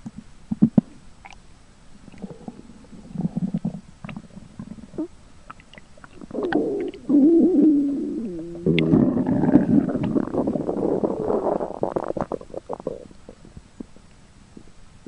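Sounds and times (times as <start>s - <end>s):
skunk stomach gurgling: 2.0s - 14.7s.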